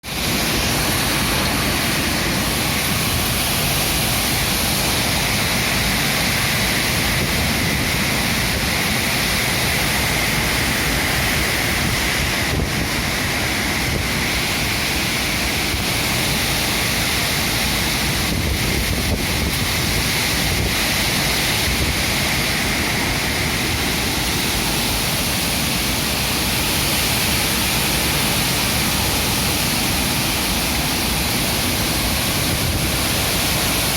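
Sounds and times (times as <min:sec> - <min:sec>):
strong wind through trees: 0:00.0 - 0:33.9.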